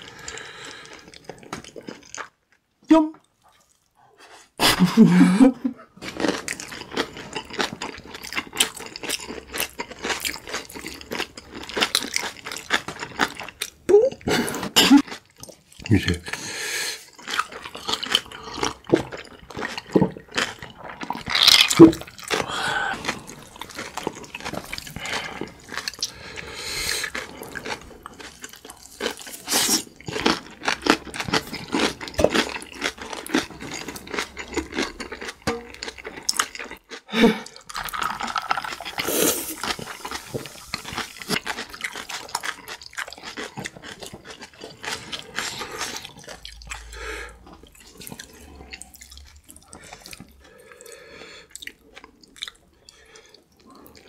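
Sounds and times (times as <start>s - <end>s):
wet chewing sounds: 6.0s - 16.4s, 17.0s - 54.0s.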